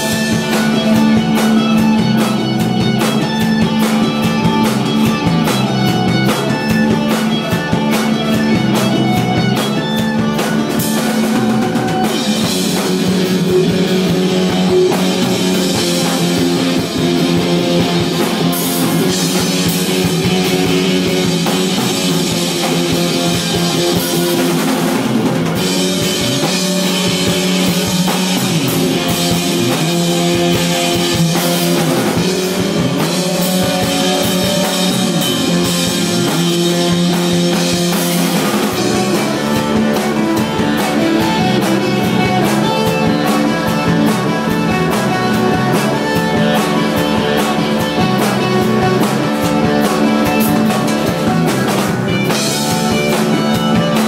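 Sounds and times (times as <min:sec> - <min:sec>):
bass guitar: 0:00.0 - 0:54.0
distorted electric guitar: 0:00.0 - 0:54.0
drum kit: 0:00.0 - 0:54.0.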